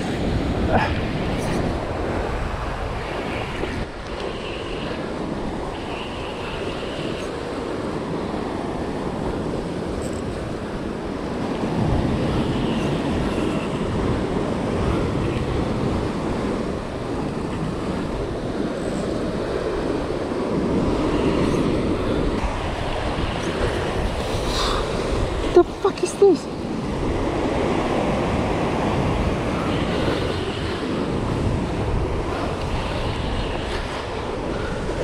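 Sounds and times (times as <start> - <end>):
churning water of boat wake: 0.0 - 35.0
wind buffeting microphone: 0.0 - 35.0.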